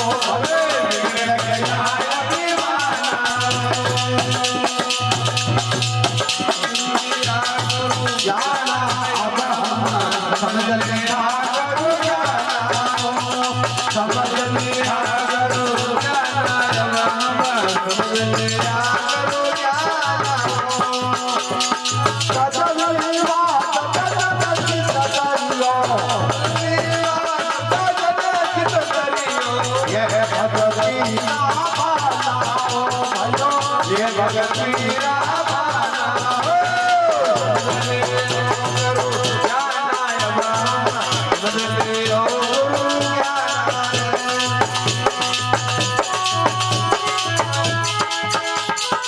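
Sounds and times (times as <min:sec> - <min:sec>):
shaken rattle percussion: 0:00.0 - 0:49.0.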